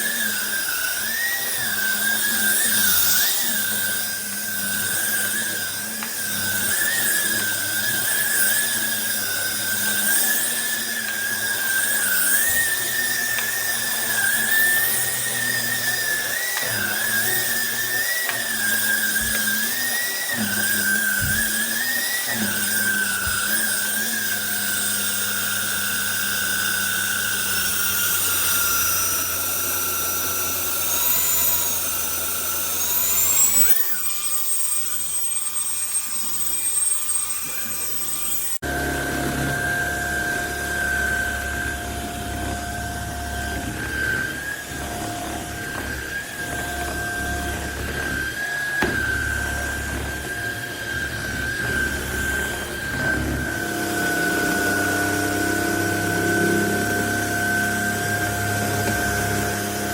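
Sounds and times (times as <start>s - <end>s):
vacuum cleaner motor whine: 0.0s - 59.9s.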